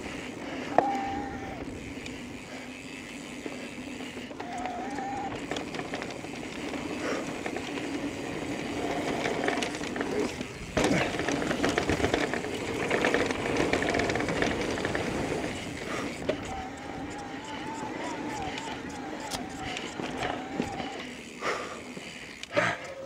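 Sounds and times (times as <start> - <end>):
bike rattling over rough terrain: 0.0 - 23.0
steady motor whine: 0.0 - 23.0.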